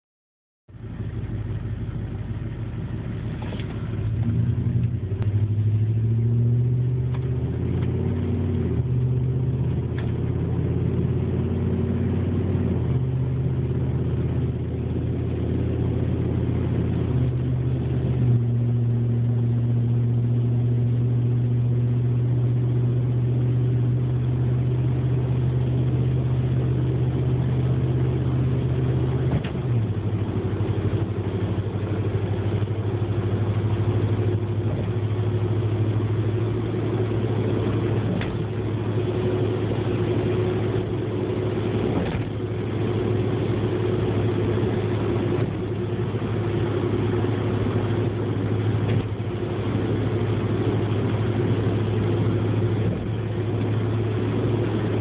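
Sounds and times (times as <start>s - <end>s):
car engine and road drone: 0.7s - 55.0s.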